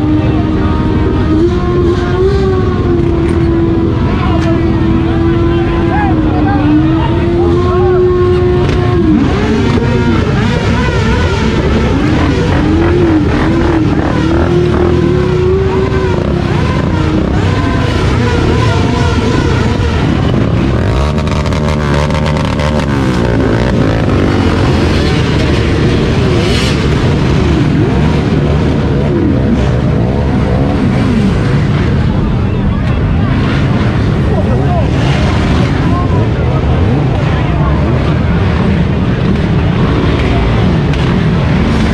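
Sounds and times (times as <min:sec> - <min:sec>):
motorcycle engine revving: 0:00.0 - 0:41.9
quad bike engine revving: 0:00.0 - 0:41.9.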